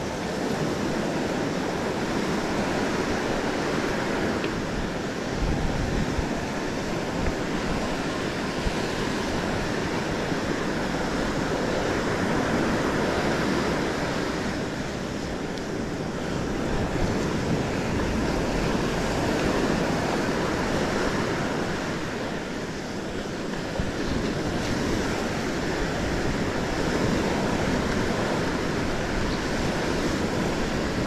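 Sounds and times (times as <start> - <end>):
waves breaking: 0.0 - 31.0
wind gusting on microphone: 0.0 - 31.0.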